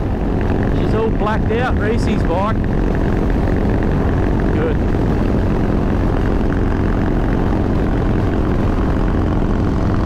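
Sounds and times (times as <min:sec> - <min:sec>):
motorcycle engine cruising: 0:00.0 - 0:10.0.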